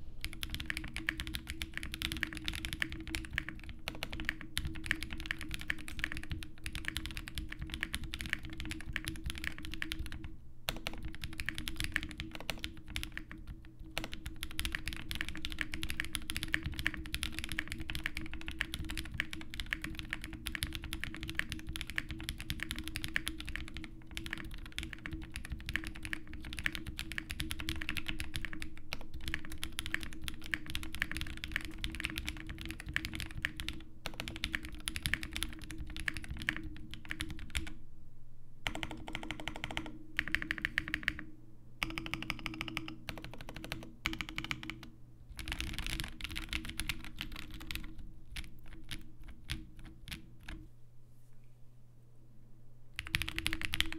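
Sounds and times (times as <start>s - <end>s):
fast typing on mechanical keyboard: 0.2s - 37.7s, 38.7s - 41.2s, 41.8s - 50.6s, 53.0s - 53.9s.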